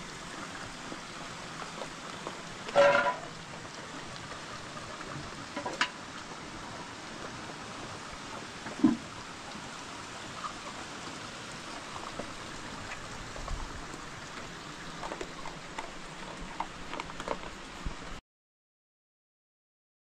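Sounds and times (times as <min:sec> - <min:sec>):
steady rain: 0:00.0 - 0:18.2.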